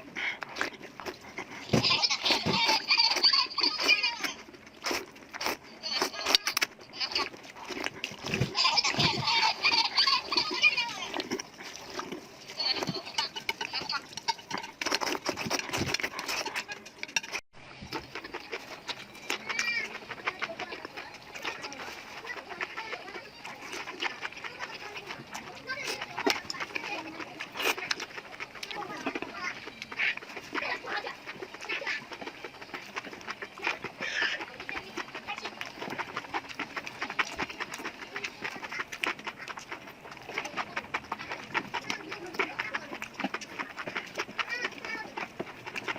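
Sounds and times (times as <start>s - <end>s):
chewing and slurping noodles: 0.0s - 45.9s.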